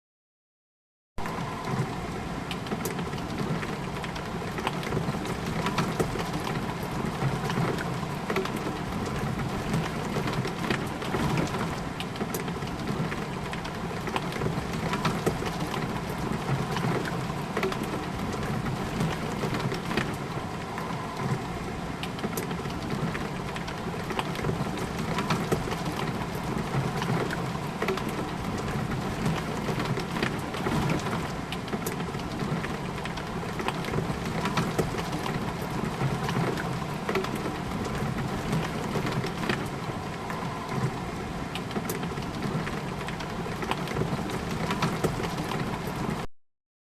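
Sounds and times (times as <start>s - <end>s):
rain pattering on a window: 1.2s - 46.3s.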